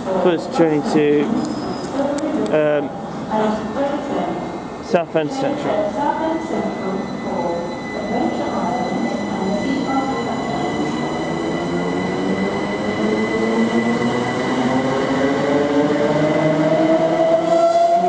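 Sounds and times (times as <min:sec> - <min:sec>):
steady high-pitched tones: 0:00.6 - 0:18.0.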